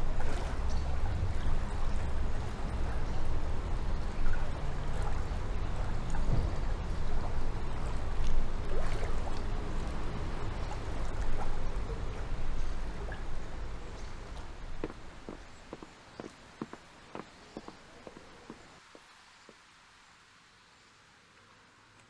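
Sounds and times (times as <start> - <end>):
canal water flowing: 0.0 - 21.9.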